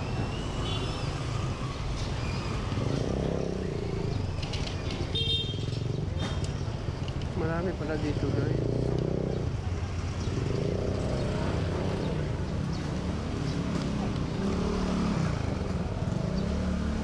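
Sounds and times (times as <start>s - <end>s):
traffic engines running: 0.0s - 17.0s.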